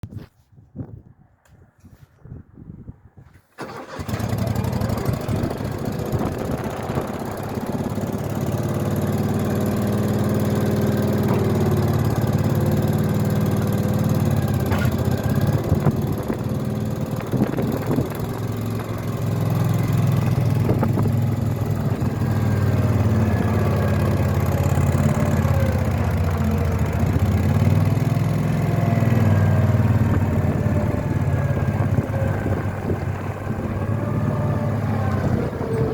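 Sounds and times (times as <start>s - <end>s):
loader engine starting and running: 3.3s - 35.9s.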